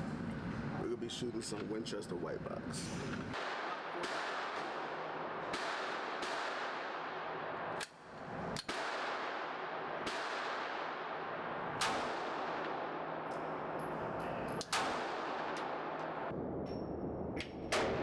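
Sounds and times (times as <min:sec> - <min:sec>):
handgun shots echoing: 0:03.3 - 0:18.0.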